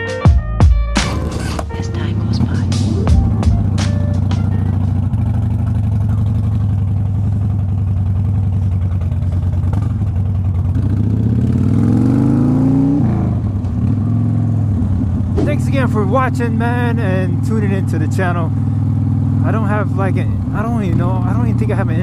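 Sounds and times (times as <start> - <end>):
motorcycle engine accelerating: 0.9 - 22.0.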